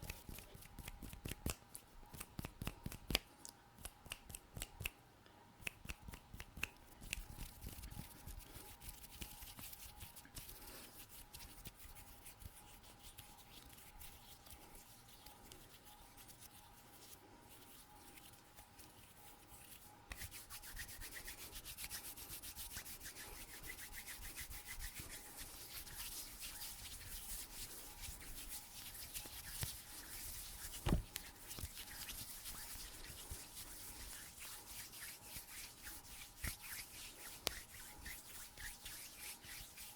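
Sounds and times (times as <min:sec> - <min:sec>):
hands rubbing and scratching: 0:00.0 - 0:04.9, 0:05.6 - 0:39.9.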